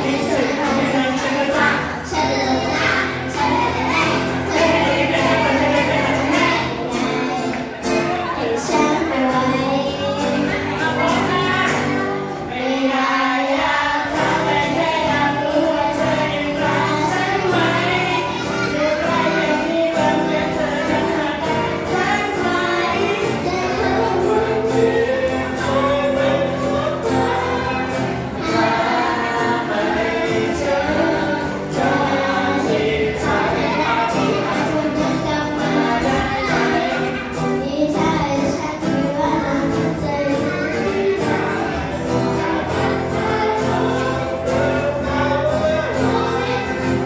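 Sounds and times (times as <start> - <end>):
people singing pop song over speakers: 0.0 - 47.0.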